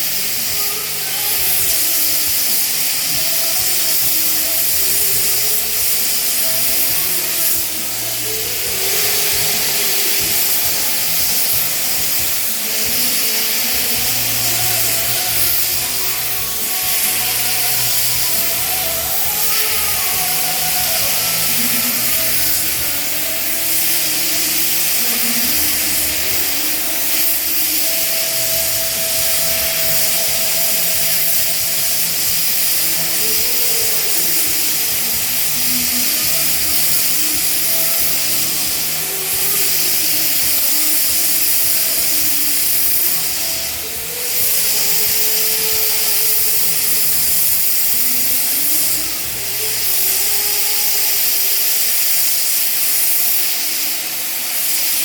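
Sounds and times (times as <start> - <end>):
background music melody: 0.0 - 55.0
gas torch flame hissing: 0.0 - 55.0.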